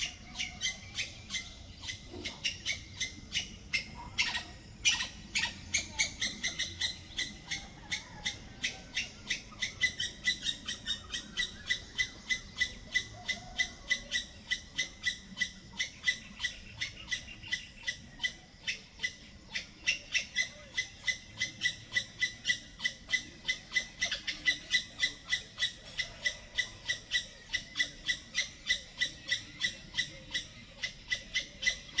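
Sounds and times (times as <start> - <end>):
squirrel chirping: 0.0 - 32.0.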